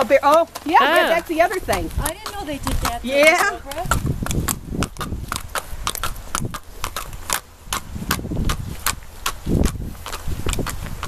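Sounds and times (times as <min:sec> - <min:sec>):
horse hooves clopping on pavement: 0:00.0 - 0:11.0.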